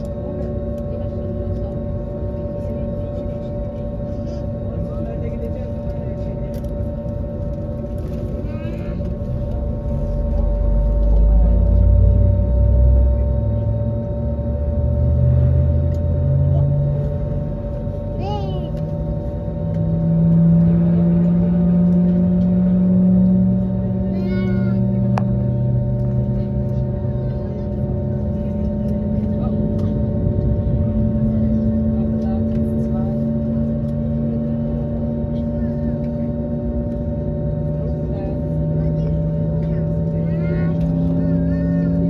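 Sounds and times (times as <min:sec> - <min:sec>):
jet engines humming in cabin: 0:00.0 - 0:42.0.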